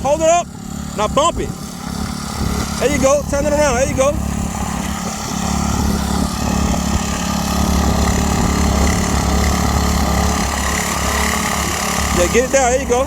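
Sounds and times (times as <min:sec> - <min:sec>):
garden tiller engine running: 0:00.0 - 0:13.0.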